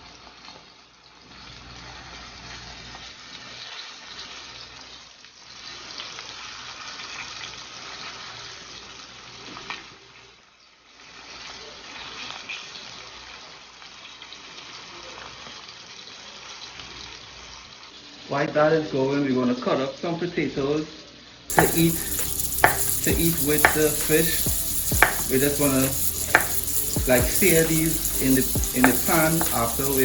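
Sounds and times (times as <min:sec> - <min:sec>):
fish frying with crackling sizzle: 0:00.0 - 0:18.3, 0:21.5 - 0:30.0.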